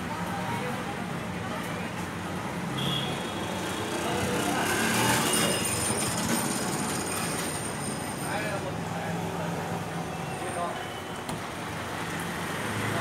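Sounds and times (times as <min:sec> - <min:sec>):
steady traffic noise: 0:00.0 - 0:13.0.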